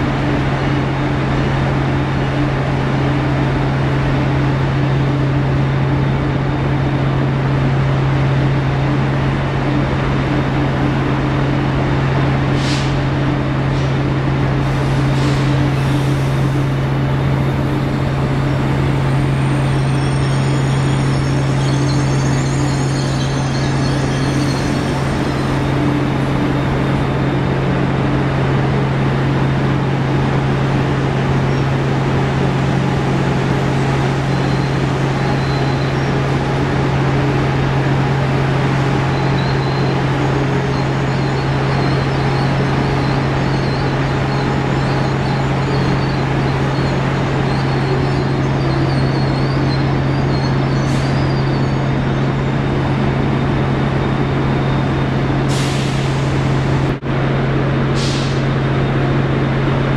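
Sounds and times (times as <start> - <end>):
electric train droning: 0.0 - 59.9.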